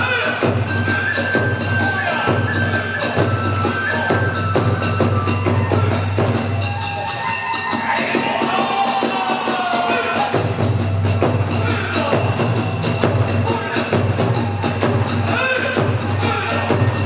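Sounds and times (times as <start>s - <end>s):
bamboo flute melody: 0.0s - 10.2s, 11.6s - 17.0s
drums beating: 0.0s - 17.0s.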